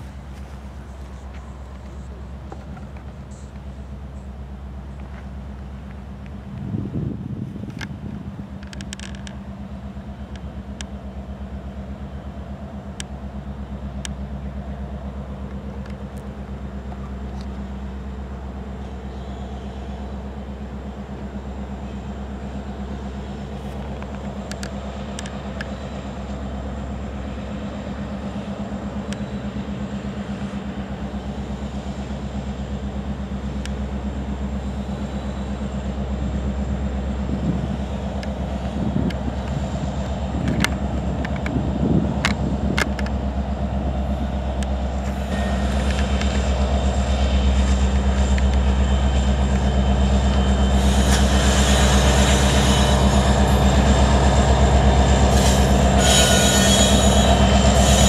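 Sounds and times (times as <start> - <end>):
freight car wheels rumbling: 0.0 - 11.7, 21.1 - 58.0
diesel locomotive engine drone: 0.0 - 58.0.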